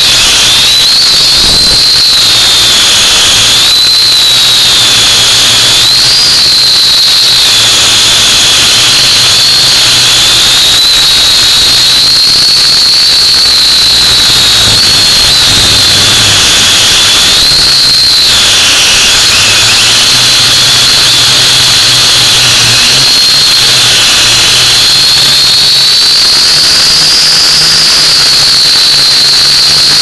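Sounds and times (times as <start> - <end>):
drone propellers whining: 0.0 - 30.0.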